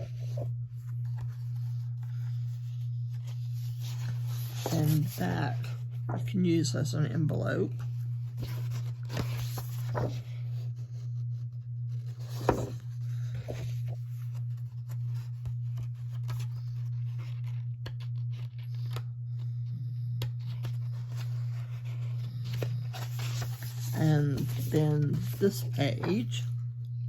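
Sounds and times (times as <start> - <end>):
paper rustling and sliding: 0.0 - 6.3, 8.3 - 19.0, 20.4 - 26.4
steady low hum: 0.0 - 27.0.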